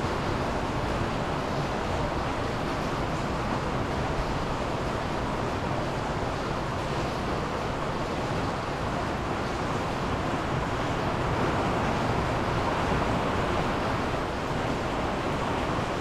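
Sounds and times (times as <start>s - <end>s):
rain on glass roof: 0.0s - 16.0s.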